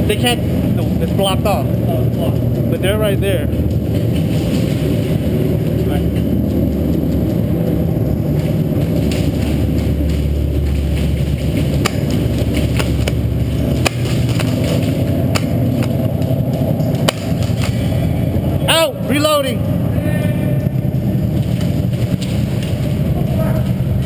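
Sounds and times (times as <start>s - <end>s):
low indoor rumble: 0.0s - 24.0s.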